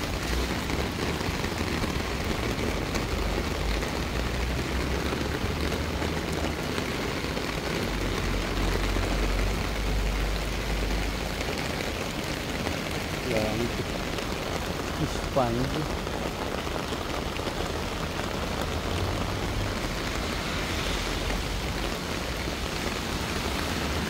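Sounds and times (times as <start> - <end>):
heavy rain downpour: 0.0 - 24.0.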